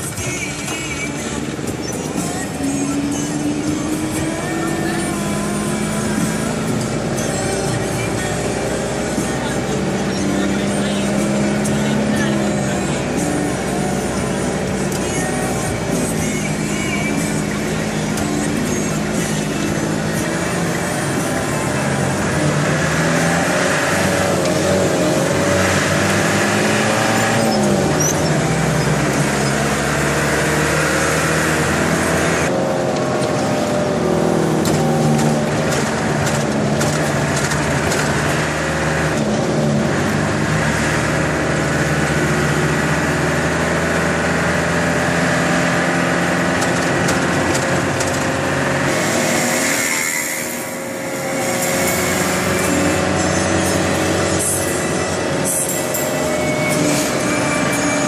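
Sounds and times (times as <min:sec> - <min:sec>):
road noise: 0:00.0 - 0:58.0
truck engine running: 0:00.0 - 0:58.0.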